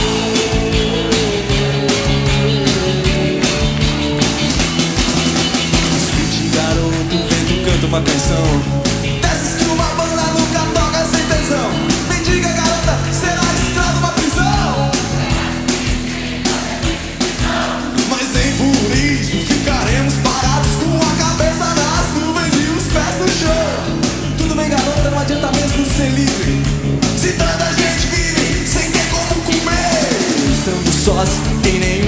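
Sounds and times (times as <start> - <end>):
rock song with electric guitar: 0.0 - 32.0.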